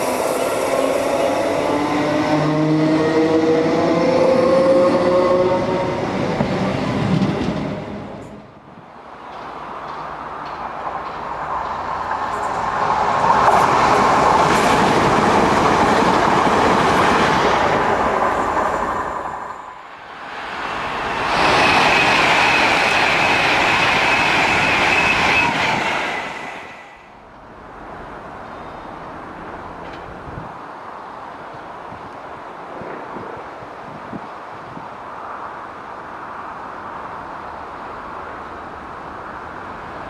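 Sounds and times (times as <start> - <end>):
train passing on rails: 0.0 - 40.0.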